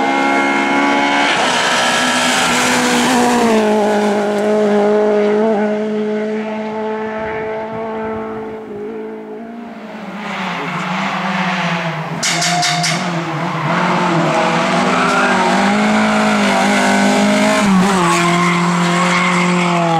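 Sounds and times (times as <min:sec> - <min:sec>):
race car engine at high revs: 0:00.0 - 0:19.9.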